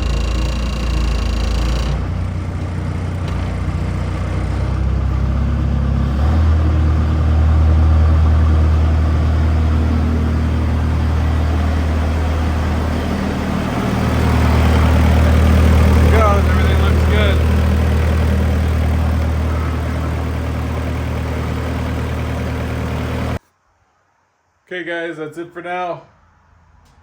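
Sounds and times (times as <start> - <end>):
skid steer engine running: 0.0 - 23.4.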